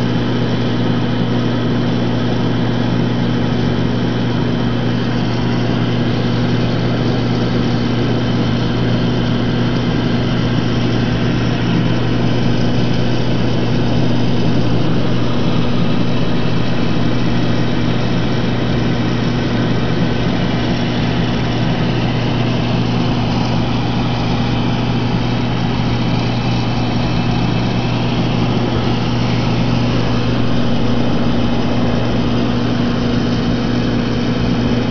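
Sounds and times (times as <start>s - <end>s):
aquarium pump humming: 3.4s - 34.9s.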